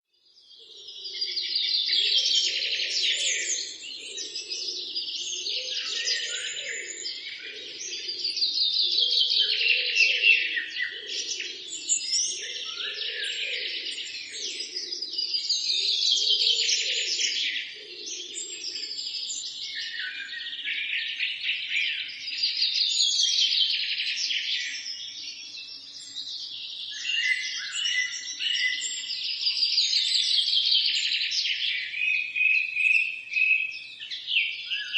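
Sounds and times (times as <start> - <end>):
birds chirping and singing: 0.2 - 34.9.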